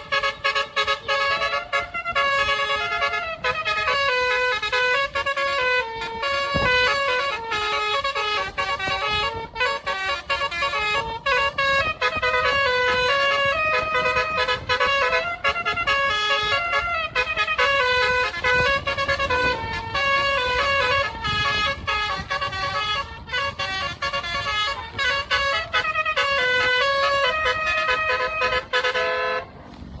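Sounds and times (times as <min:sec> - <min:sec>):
bus horn playing melody: 0:00.0 - 0:29.8.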